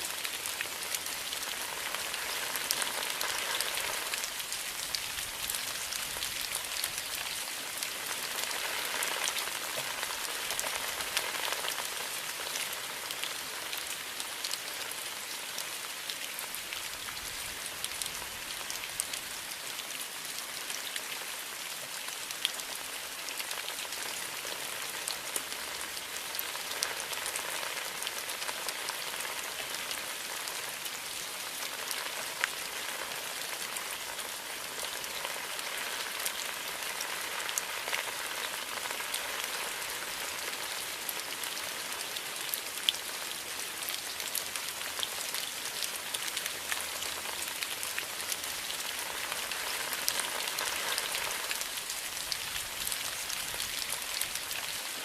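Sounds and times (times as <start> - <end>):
rain falling on bamboo: 0.0 - 55.0.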